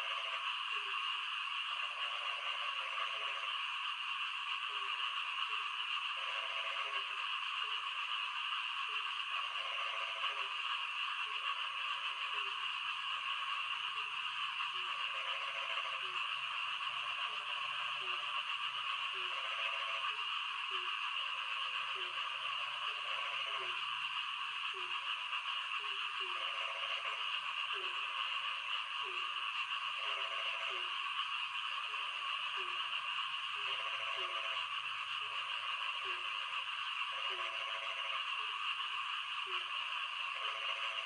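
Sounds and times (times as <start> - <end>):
frogs croaking: 0.0 - 41.0.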